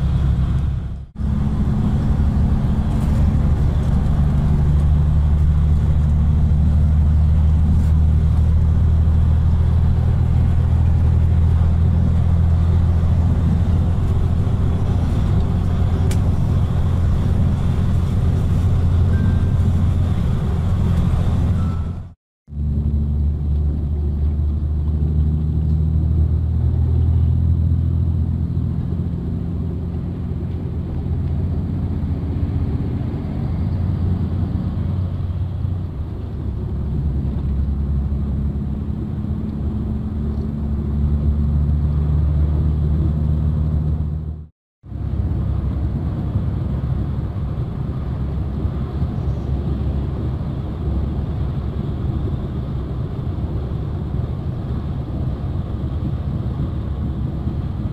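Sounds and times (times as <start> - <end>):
bus engine drone: 0.0 - 57.9.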